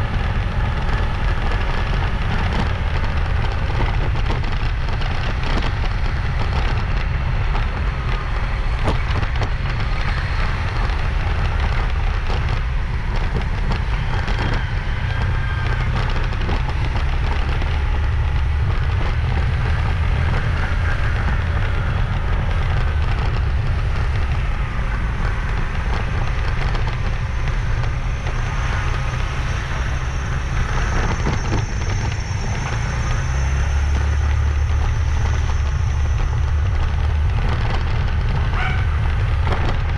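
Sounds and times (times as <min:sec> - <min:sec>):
motorbike road noise: 0:00.0 - 0:39.9
wind buffeting microphone: 0:00.0 - 0:39.9.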